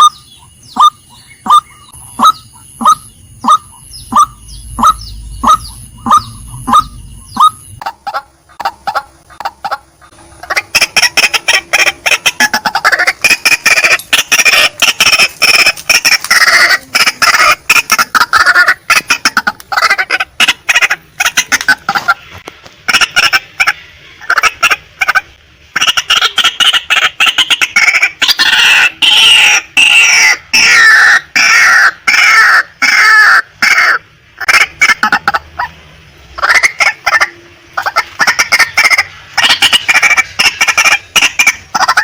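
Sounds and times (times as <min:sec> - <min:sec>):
waterhen kwak calls: 0:00.0 - 0:42.0
waterhen loud fast chattering: 0:00.0 - 0:42.0.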